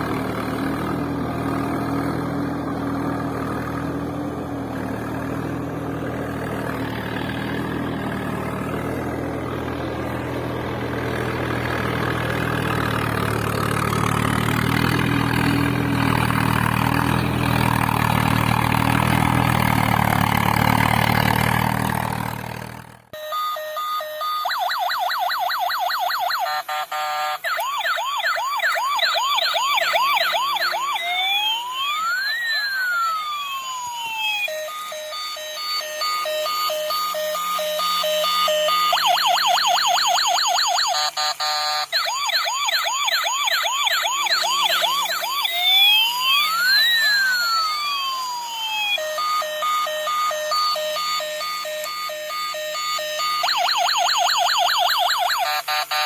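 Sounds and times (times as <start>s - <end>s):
electronic siren: 0.0s - 56.0s.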